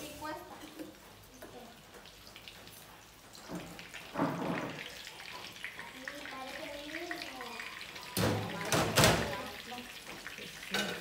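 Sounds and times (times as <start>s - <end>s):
fritters sizzling in oil: 0.0s - 11.0s.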